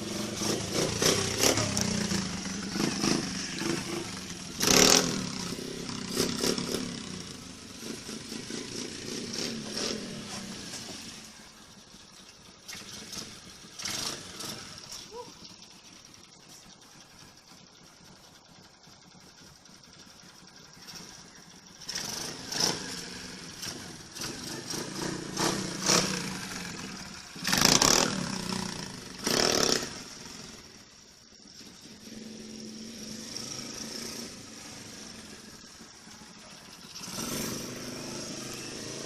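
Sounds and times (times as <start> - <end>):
small motorbike engine running: 0.0 - 39.0.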